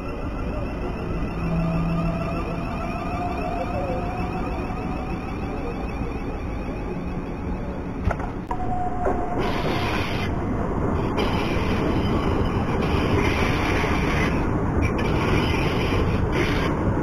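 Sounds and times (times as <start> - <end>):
train motor whine: 0.0 - 16.8
train wheels rumbling on rail: 0.0 - 17.0.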